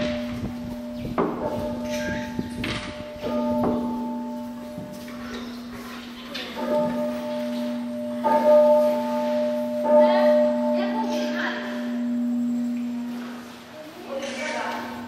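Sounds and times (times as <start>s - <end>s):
large bell ringing: 0.0s - 15.0s.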